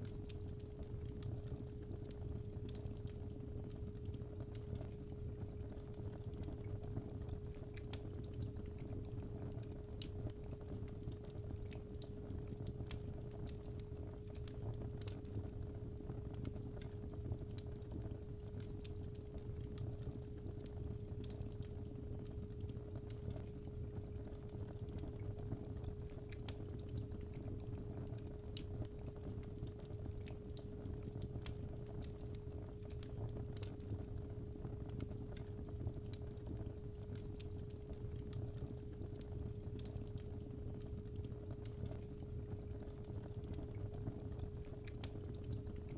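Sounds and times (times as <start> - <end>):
fireplace fire crackling: 0.0 - 45.9.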